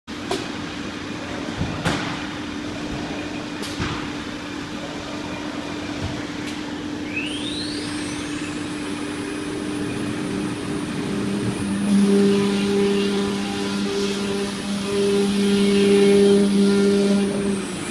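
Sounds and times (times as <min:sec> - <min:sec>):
cnc router humming: 0:00.1 - 0:17.9
low steady machine tones: 0:00.1 - 0:17.9
spindle high whine: 0:00.7 - 0:17.9.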